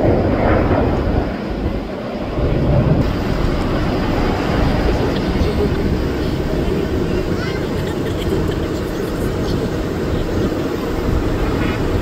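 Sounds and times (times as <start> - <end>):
aircraft flying overhead: 0.0 - 12.0.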